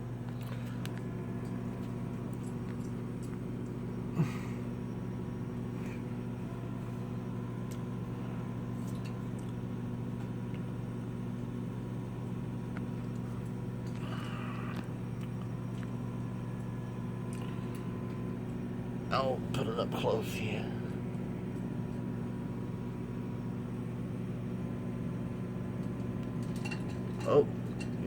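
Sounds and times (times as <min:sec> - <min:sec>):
furnace fan motor hum: 0:00.0 - 0:28.0.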